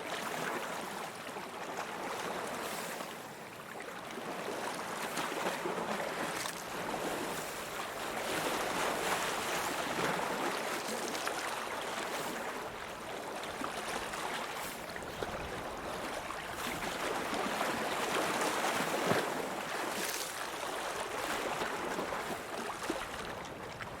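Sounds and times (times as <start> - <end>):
lake waves washing on shore: 0.0 - 24.0
water splashes: 3.7 - 24.0.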